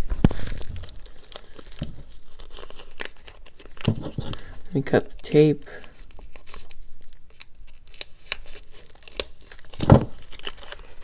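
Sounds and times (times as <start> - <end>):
paper crinkling and tearing: 0.0 - 4.8, 5.8 - 11.0.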